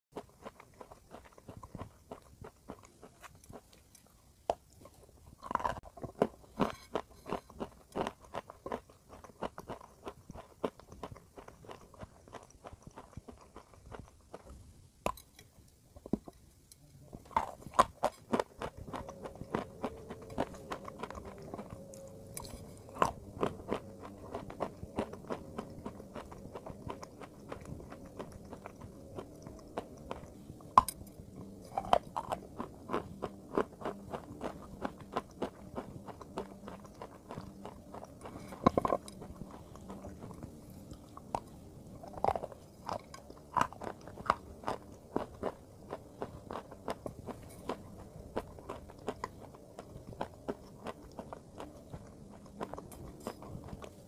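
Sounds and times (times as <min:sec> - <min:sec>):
grinding chew: 0:00.2 - 0:54.0.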